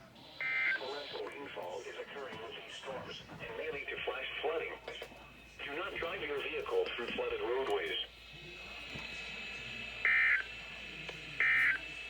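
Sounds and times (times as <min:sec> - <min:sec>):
radio static hiss: 0:00.2 - 0:12.0.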